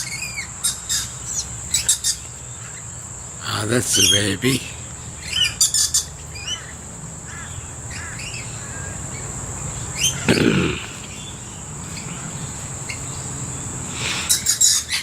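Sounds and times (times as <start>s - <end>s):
birds chirping: 0.0s - 15.0s
steady high whine: 0.2s - 15.0s.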